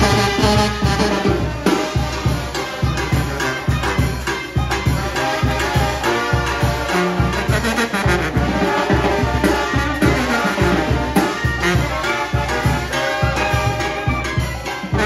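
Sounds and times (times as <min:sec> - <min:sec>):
bass drum and drums beat: 0:00.0 - 0:15.0
brass band playing: 0:00.0 - 0:15.0.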